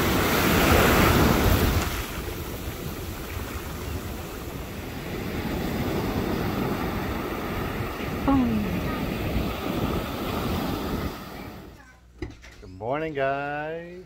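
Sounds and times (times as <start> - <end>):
ocean surf breaking: 0.0 - 11.8
wind rumbling on microphone: 0.0 - 11.8.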